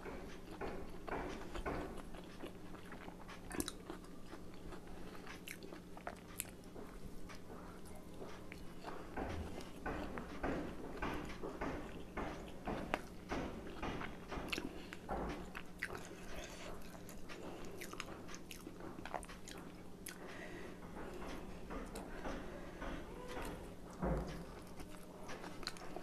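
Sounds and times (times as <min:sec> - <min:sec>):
chewing and biting dumplings: 0:00.0 - 0:20.2, 0:24.4 - 0:26.0.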